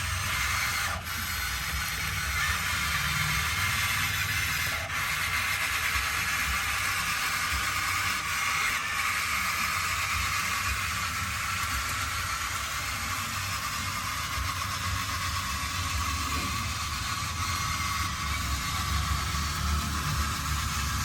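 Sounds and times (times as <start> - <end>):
toy machine motor hum: 0.0 - 21.0.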